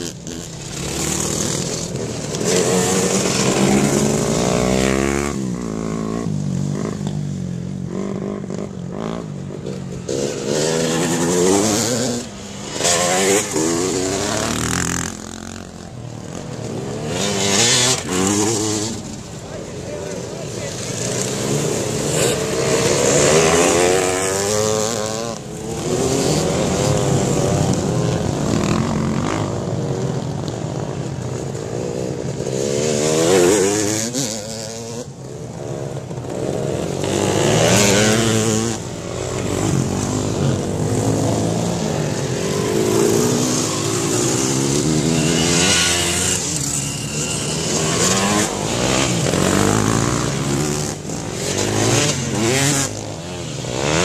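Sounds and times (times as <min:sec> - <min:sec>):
dirt bikes racing past: 0:00.0 - 0:54.0.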